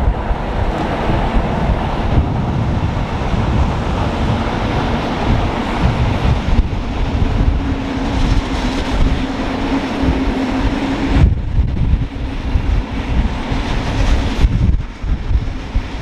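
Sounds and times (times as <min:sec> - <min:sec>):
locomotive low hum: 0:00.0 - 0:16.0
train coaches rumbling over track: 0:00.0 - 0:16.0.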